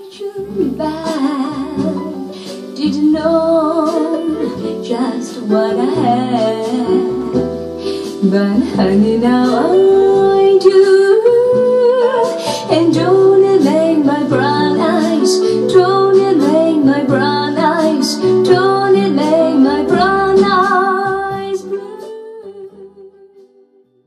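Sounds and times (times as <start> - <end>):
woman singing: 0.0 - 23.5.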